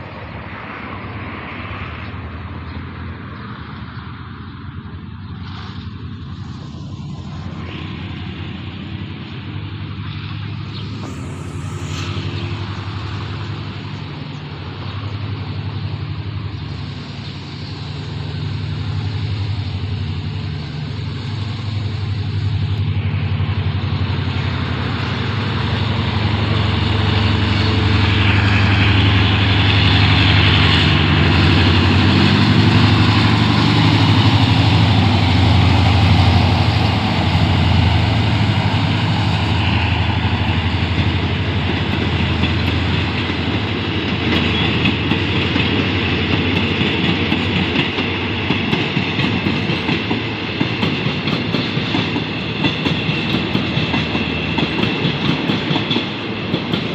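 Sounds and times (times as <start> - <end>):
locomotive engine hum: 0.0 - 56.9
wheels clickety-clack over rail joints: 0.0 - 56.9.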